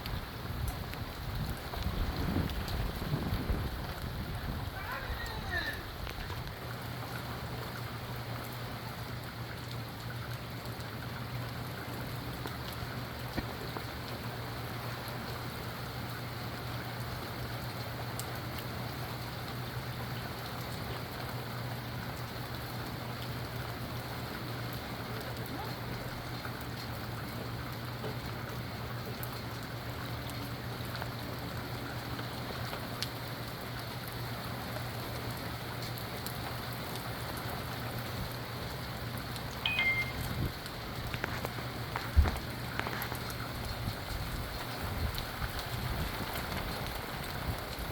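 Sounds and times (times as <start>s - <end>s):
rain pattering on surfaces: 0.0s - 47.9s.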